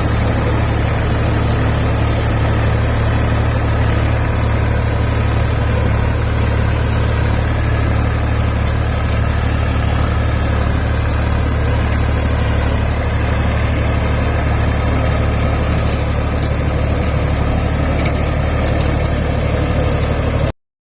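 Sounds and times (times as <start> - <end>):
tractor diesel engine running: 0.0 - 20.6.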